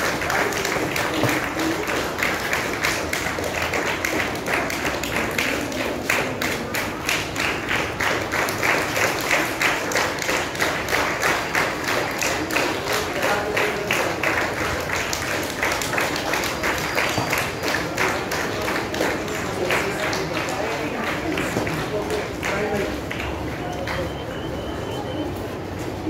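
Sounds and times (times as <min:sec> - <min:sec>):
crowd clapping: 0:00.0 - 0:26.0.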